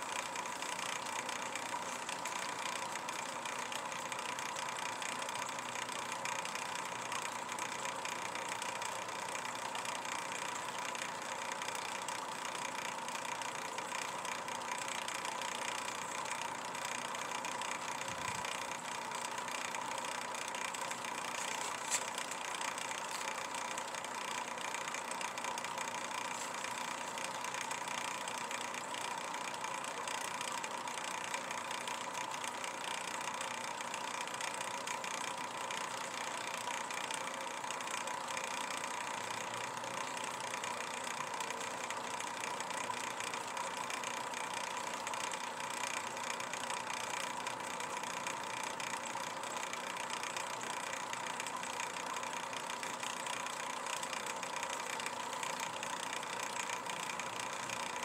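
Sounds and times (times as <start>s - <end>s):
mechanical hum with hiss: 0.0s - 58.0s.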